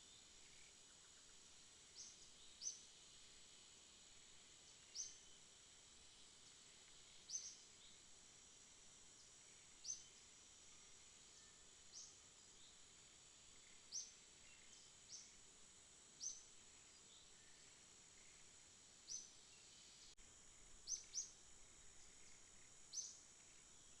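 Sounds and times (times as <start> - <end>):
high-pitched insect hum: 0.0 - 24.0.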